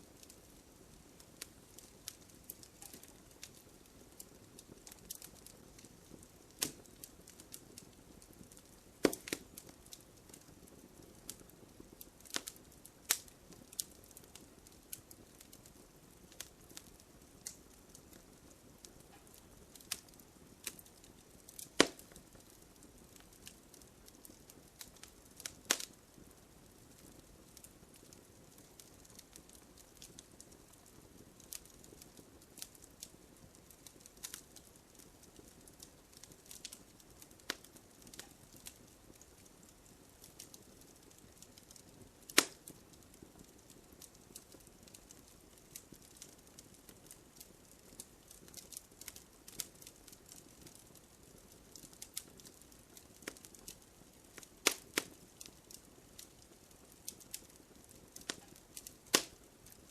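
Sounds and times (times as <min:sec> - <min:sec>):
campfire crackling and snapping: 0:00.0 - 0:59.9
low hiss: 0:00.0 - 0:59.9.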